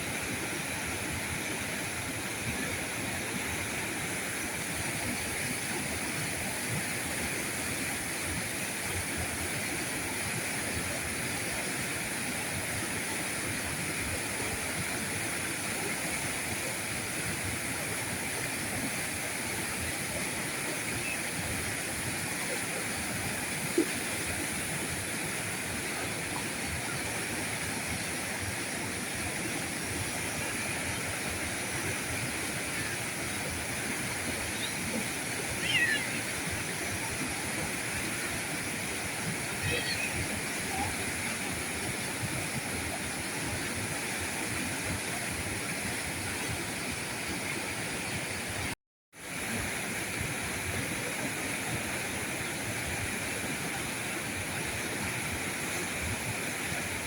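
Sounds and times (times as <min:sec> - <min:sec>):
river current rushing: 0:00.0 - 0:57.0.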